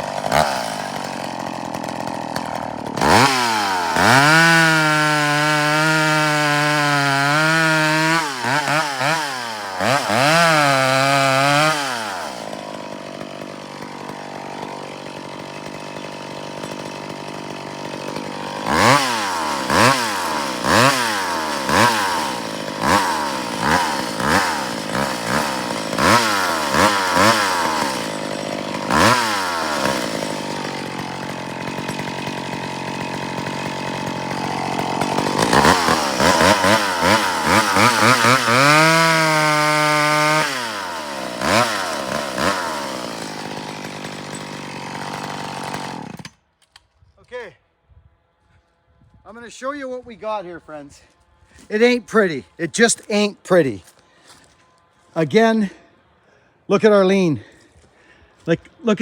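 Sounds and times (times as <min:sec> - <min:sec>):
chainsaw revving and idling: 0:00.0 - 0:47.5, 0:49.3 - 0:59.0.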